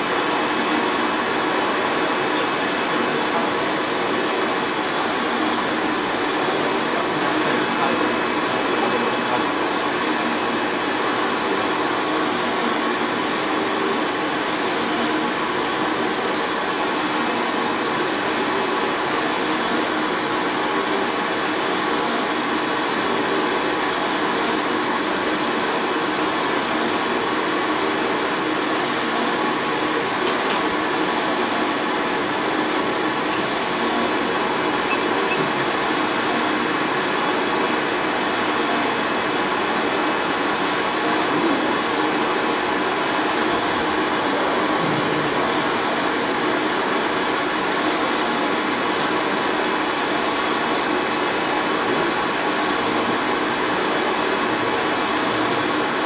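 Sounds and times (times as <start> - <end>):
printer whirring: 0.0 - 56.0.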